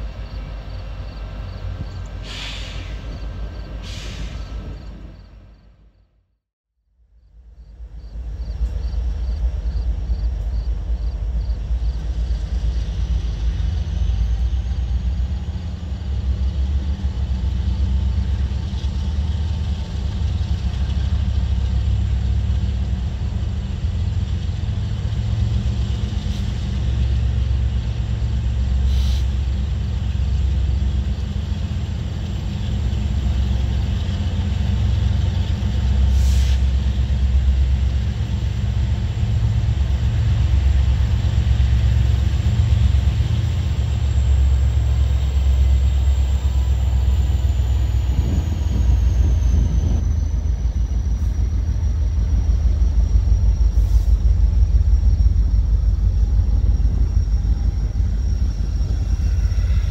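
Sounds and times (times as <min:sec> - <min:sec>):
diesel locomotives rumbling: 0:00.0 - 0:06.2, 0:07.0 - 0:59.9.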